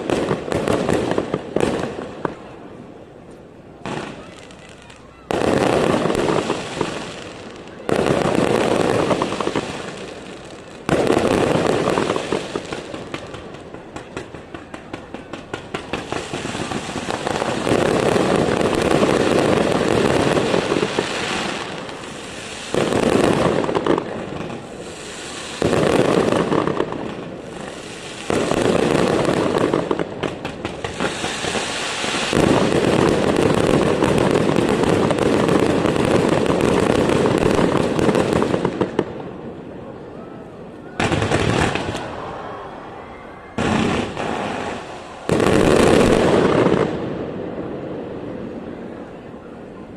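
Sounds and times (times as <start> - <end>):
fireworks bursts: 0.0 - 2.5, 3.8 - 39.7, 41.0 - 42.6, 43.5 - 48.8
fireworks crackling: 0.0 - 39.7, 40.5 - 49.9.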